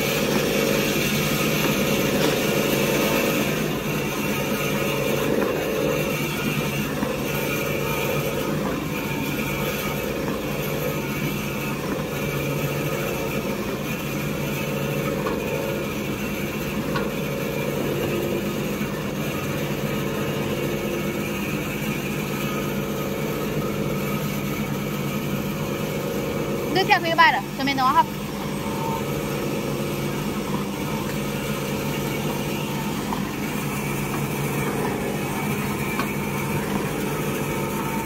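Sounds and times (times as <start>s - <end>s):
cutting machine humming: 0.0s - 38.0s.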